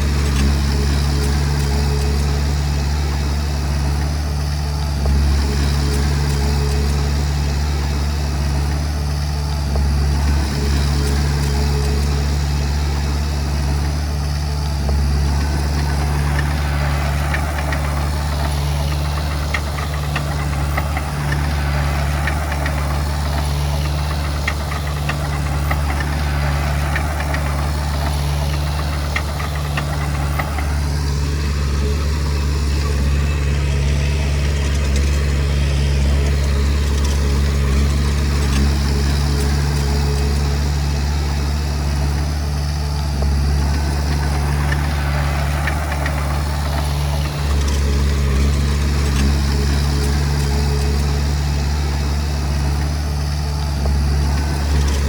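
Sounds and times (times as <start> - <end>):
bulldozer diesel engine humming: 0.0 - 55.0.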